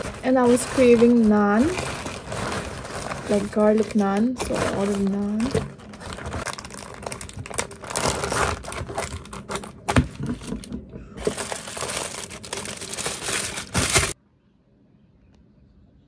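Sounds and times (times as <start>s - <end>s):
foil wrapping crackling: 0.0s - 14.2s
plastic bag crinkling: 0.0s - 14.2s.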